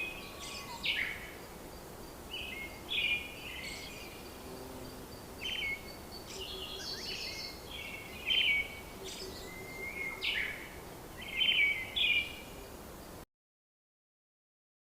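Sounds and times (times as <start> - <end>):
birds chirping: 0.0 - 13.2
faint background hiss: 0.0 - 13.2.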